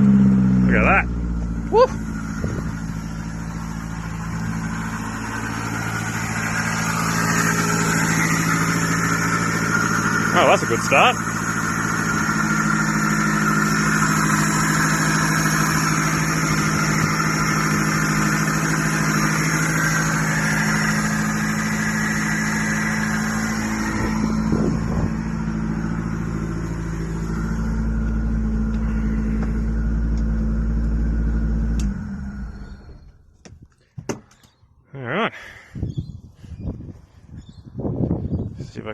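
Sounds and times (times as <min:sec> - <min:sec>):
car engine running: 0:00.0 - 0:34.6.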